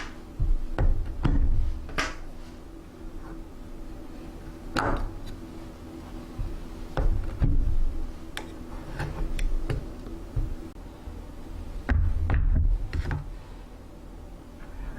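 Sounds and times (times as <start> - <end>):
refrigerator hum: 0.0 - 14.9.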